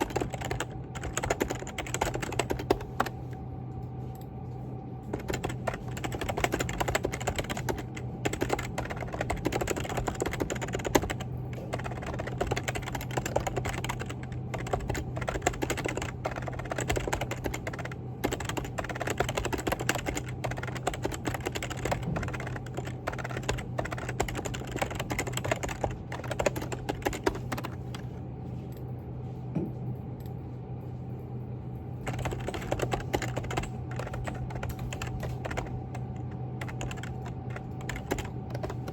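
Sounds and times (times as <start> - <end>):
typing on computer keyboard: 0.0 - 3.2, 5.1 - 28.1, 32.0 - 38.9
steady low hum: 0.0 - 38.9.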